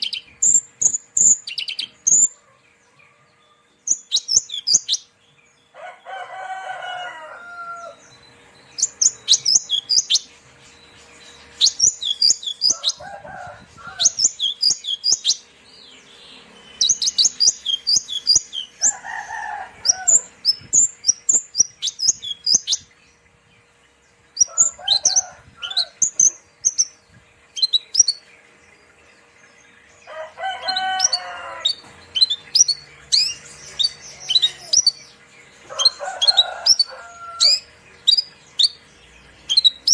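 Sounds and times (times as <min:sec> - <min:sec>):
bird chirping rapidly: 0:00.0 - 0:02.6, 0:03.8 - 0:05.6, 0:07.8 - 0:39.9.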